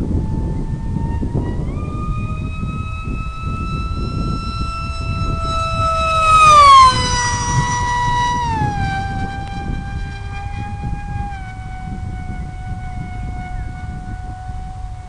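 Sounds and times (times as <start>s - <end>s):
low wind rumble: 0.0s - 15.0s
model plane motor whining: 0.0s - 15.0s.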